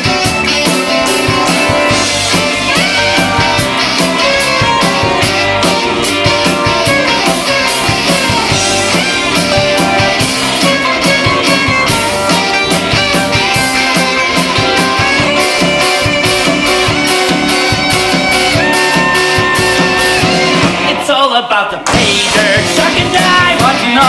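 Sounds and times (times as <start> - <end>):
steady drum beat: 0.0 - 21.2, 21.8 - 24.0
upbeat instrumental band music: 0.0 - 24.0.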